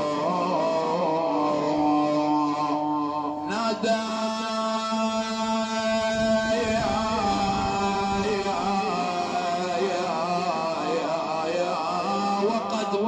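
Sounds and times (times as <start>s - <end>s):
man chanting melisma: 0.0s - 13.0s.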